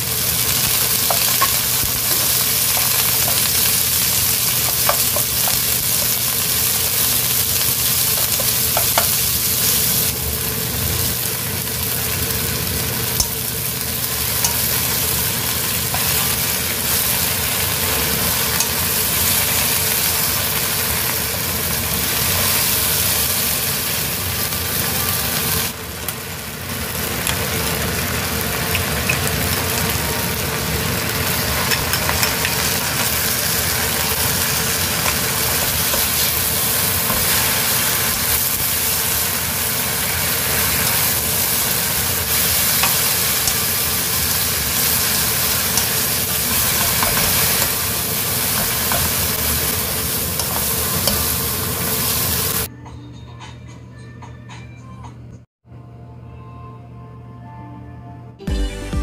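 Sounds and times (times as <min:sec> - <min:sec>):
greens sizzling in a pan: 0:00.0 - 0:52.7.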